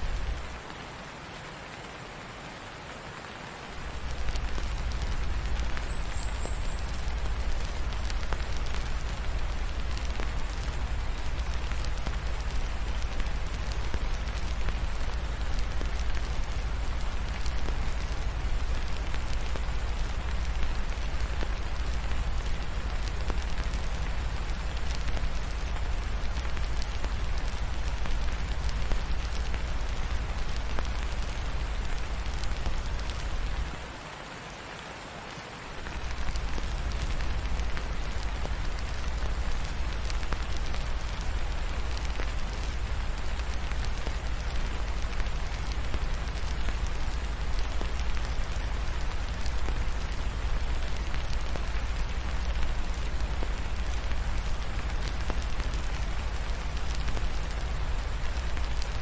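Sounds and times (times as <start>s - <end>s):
wood fire crackling: 0.0s - 0.8s, 3.2s - 34.1s, 35.7s - 59.0s
steady rain hiss: 0.0s - 59.0s.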